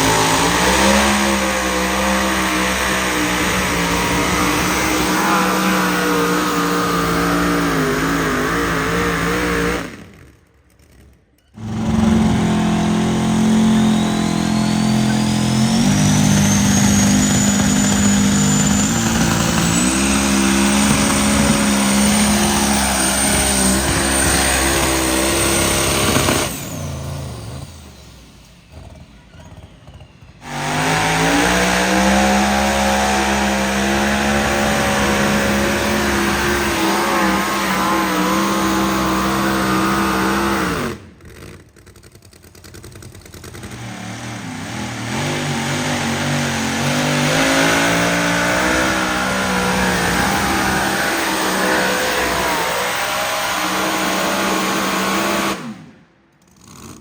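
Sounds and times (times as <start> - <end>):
high whine: 0.0 - 9.9, 11.6 - 41.0, 43.7 - 55.9
engine running hard under load: 0.0 - 10.3, 11.6 - 41.5, 43.3 - 56.2.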